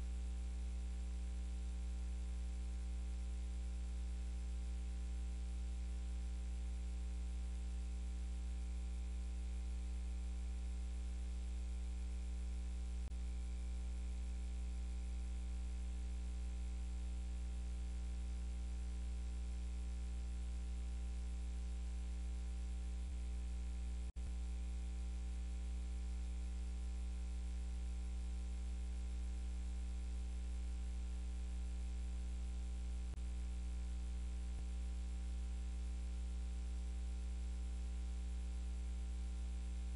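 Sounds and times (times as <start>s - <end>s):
electrical hum and buzz: 0.0s - 39.9s.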